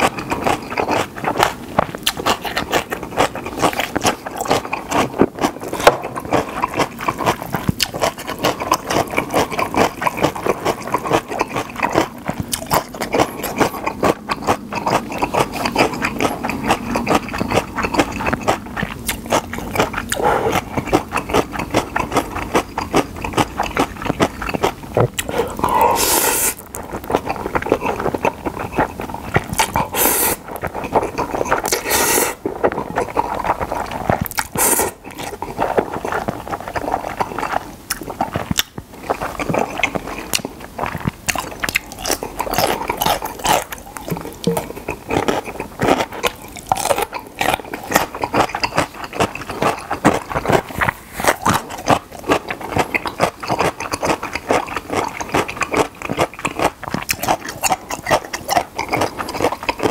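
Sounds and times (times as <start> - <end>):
noodle slurping: 0.0 - 59.9
wet sticky chewing: 0.0 - 59.9.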